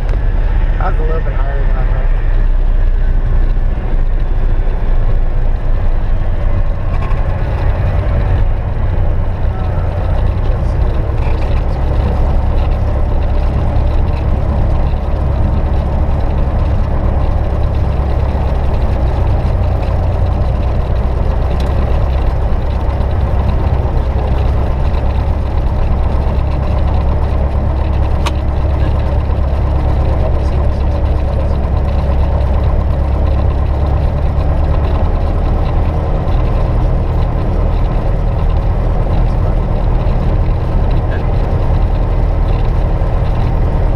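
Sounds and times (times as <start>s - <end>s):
airplane engine drone: 0.0s - 43.9s.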